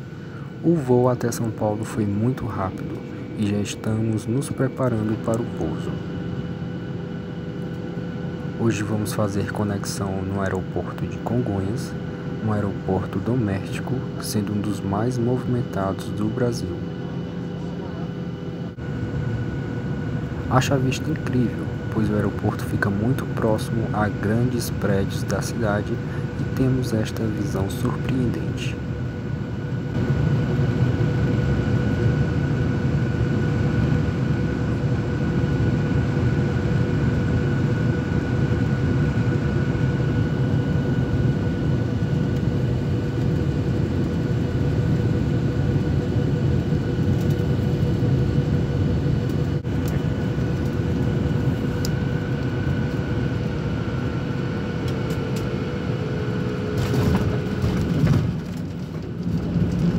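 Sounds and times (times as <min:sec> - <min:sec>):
faint steady whine: 0:00.0 - 0:59.9
jet engine and airflow rush: 0:00.0 - 0:59.9.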